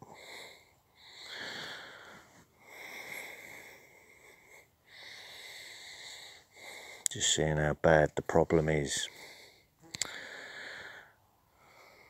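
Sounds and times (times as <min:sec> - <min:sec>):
person breathing wheezily: 0:00.0 - 0:07.1, 0:09.1 - 0:12.0.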